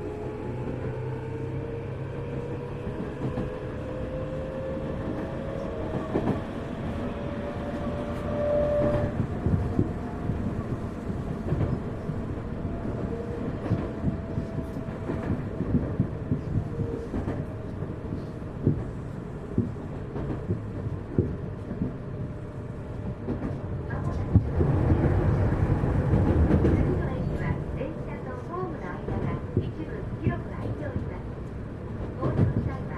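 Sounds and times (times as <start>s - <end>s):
train wheels rumbling on track: 0.0s - 32.9s.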